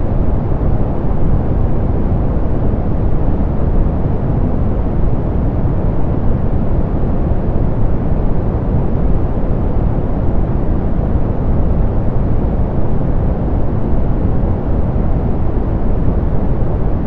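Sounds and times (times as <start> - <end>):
deep pink noise hiss: 0.0 - 17.0.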